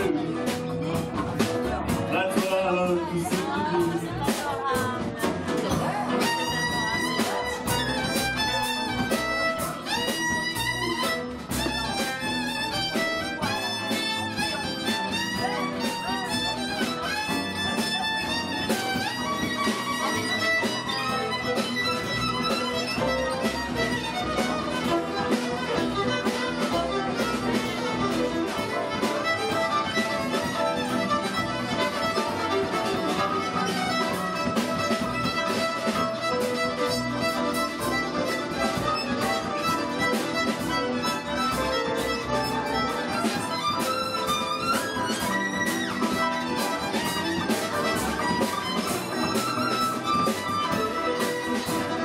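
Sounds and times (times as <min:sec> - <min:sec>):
fiddle melody: 0:00.0 - 0:52.0
swing band playing: 0:00.0 - 0:52.0.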